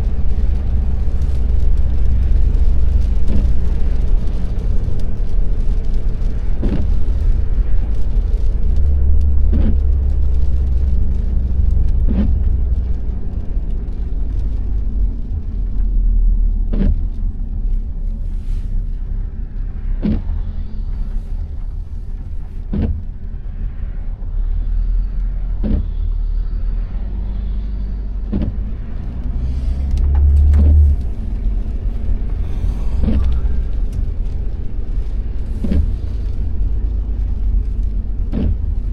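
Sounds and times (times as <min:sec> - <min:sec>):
road noise inside car: 0:00.0 - 0:38.9
windscreen wipers swishing: 0:00.0 - 0:38.9.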